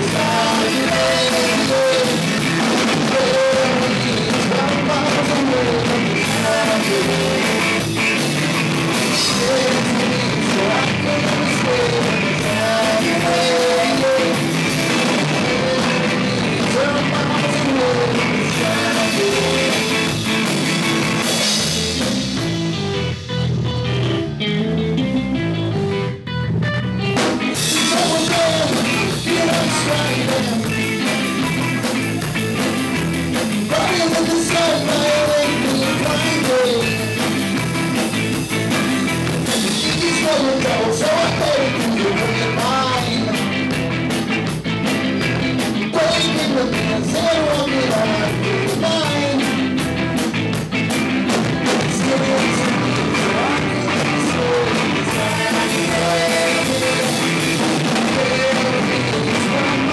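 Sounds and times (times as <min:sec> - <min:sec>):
person singing: 0:00.0 - 0:22.2, 0:27.5 - 0:43.8, 0:45.8 - 0:49.8, 0:51.6 - 0:59.9
live rock band playing: 0:00.0 - 0:59.9.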